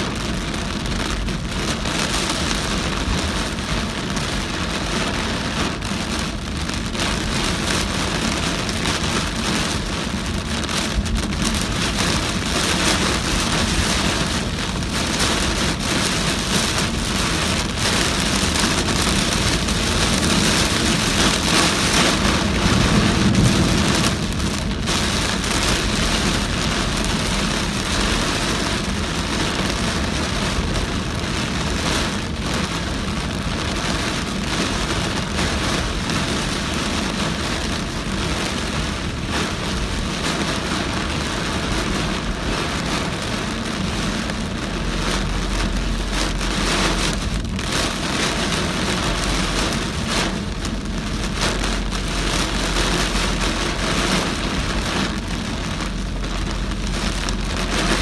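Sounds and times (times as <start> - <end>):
heavy rain pelting a car: 0.0 - 58.0
tyre and road noise: 0.0 - 58.0.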